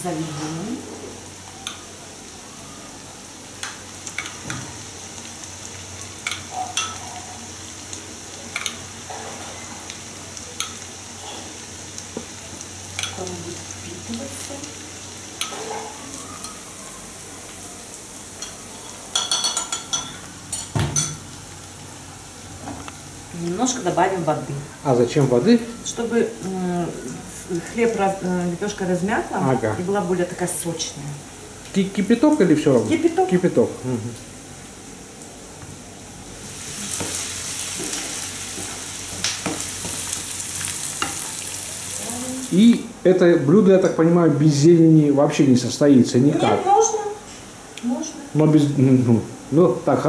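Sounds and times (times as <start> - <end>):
onions sizzling in a pan: 0.0 - 50.0.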